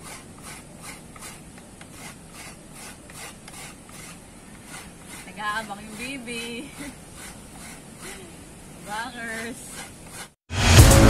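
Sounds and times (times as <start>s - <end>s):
rhythmic rasping scrapes: 0.0s - 11.0s.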